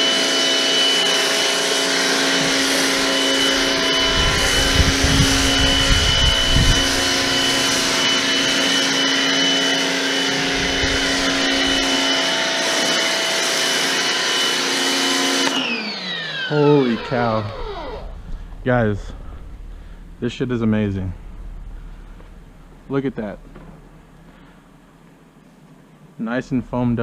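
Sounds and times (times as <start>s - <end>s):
pressure washer whining: 0.0s - 25.2s.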